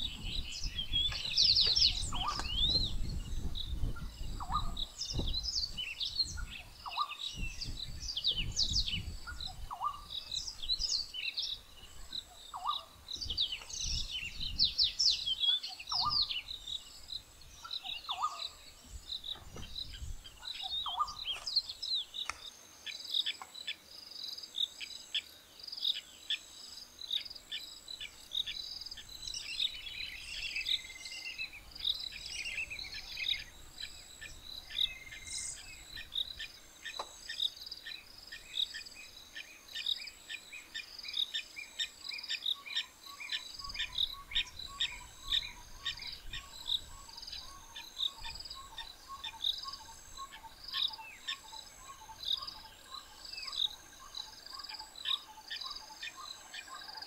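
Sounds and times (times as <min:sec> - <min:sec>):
birds calling: 0:00.0 - 0:23.5, 0:27.1 - 0:57.0
bird trilling song: 0:00.0 - 0:23.8, 0:27.1 - 0:57.0
insects chirping: 0:00.0 - 0:57.0.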